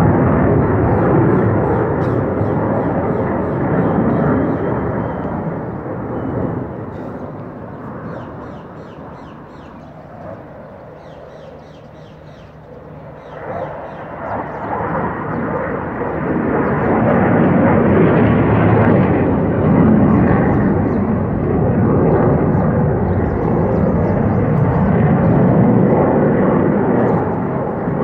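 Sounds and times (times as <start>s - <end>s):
jet engine passing overhead: 0.0s - 28.0s.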